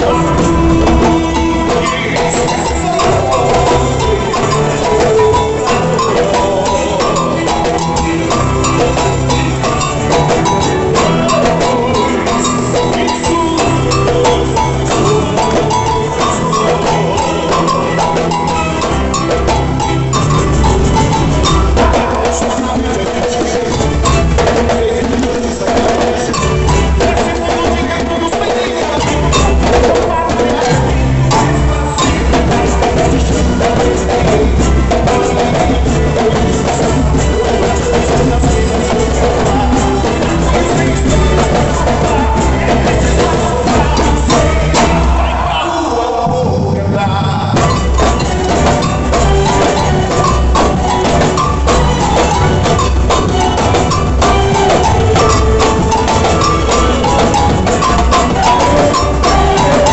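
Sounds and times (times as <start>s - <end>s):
drum percussion: 0.0s - 59.9s
live band playing: 0.0s - 59.9s.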